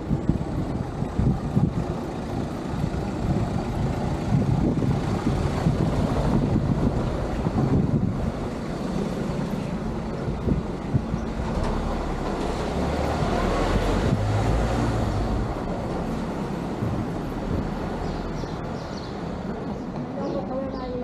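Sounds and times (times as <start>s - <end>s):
vehicle and road noise: 0.0s - 21.0s.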